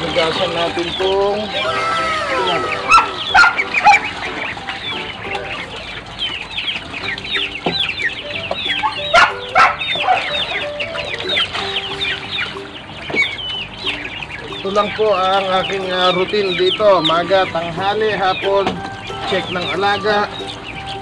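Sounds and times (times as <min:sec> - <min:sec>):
chickens clucking: 0:00.0 - 0:21.0
chicks peeping: 0:00.0 - 0:21.0.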